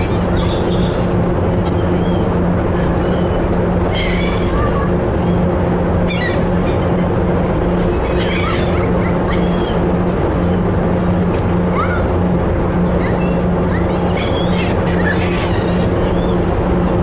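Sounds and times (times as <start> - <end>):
ferry engines droning: 0.0 - 17.0
seagulls calling: 0.0 - 17.0.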